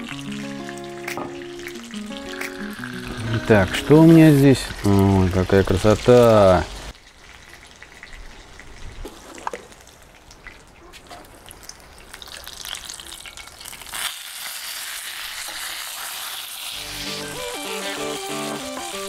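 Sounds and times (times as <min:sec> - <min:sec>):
chicken sizzling in a skillet: 0:00.0 - 0:09.3, 0:11.5 - 0:19.0.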